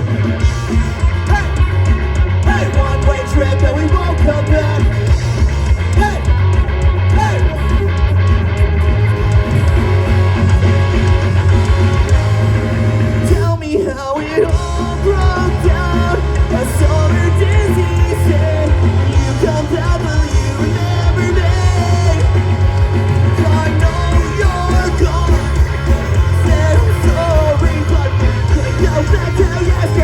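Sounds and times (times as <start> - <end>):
punk rock band playing: 0.0 - 30.0
person singing and shouting: 0.6 - 5.2, 5.8 - 11.1, 13.2 - 30.0.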